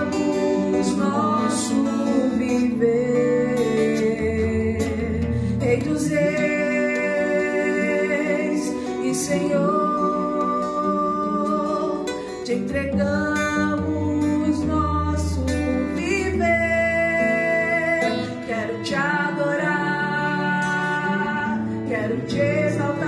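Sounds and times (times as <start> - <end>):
bowed cello: 0.0 - 23.0
strummed acoustic guitar: 0.0 - 23.0
woman singing: 0.0 - 23.0.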